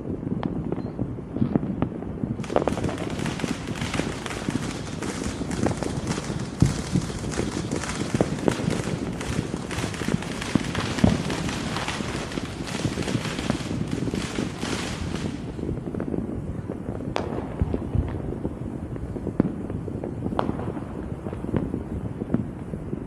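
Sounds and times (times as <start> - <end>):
fireworks crackling and banging: 0.0 - 23.0.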